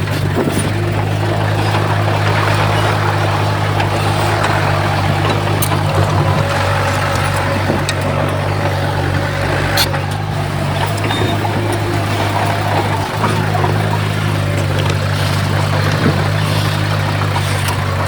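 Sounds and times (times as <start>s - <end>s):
heavy diesel machinery drone: 0.0s - 18.0s.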